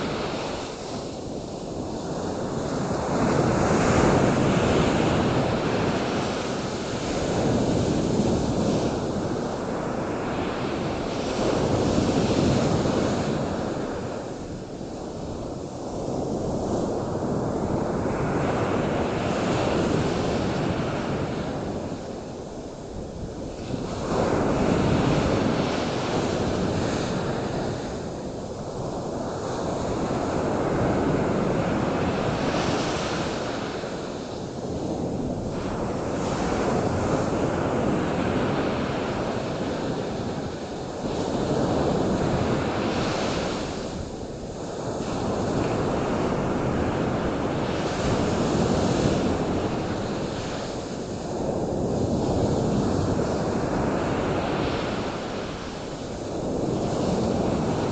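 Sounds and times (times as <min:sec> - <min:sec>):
waves breaking: 0:00.0 - 0:57.9.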